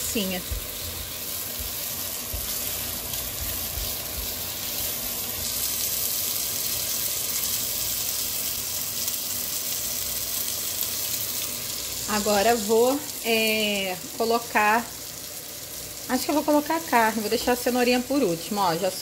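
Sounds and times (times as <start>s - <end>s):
sausage sizzling in oil: 0.0s - 19.0s.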